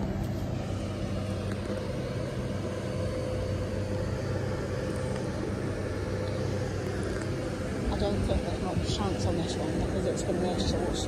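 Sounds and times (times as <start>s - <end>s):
electric train low hum: 0.0s - 11.0s.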